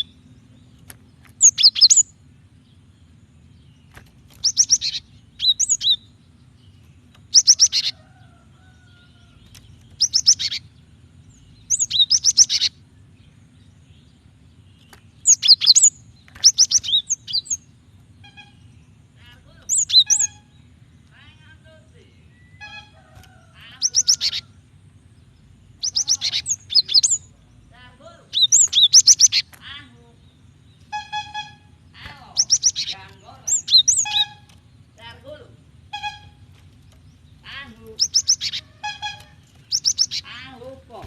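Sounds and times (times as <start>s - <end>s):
faint low hum: 0.0s - 41.0s
bird chirping high notes: 1.4s - 3.2s, 4.0s - 8.1s, 9.8s - 12.9s, 14.7s - 24.5s, 25.3s - 40.9s.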